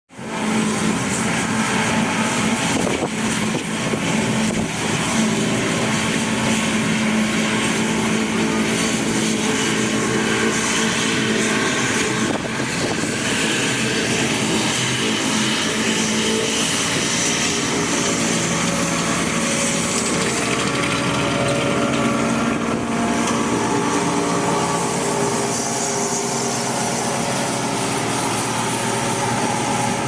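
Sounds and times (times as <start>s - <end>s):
farm machine engine droning: 0.1s - 30.0s.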